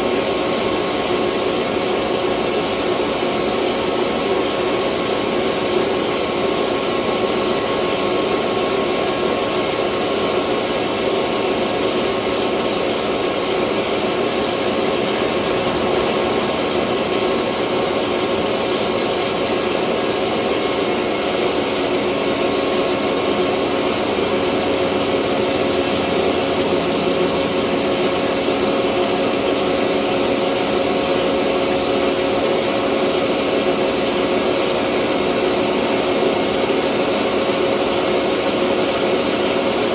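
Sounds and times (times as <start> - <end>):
rice mill machine humming: 0.0 - 39.9.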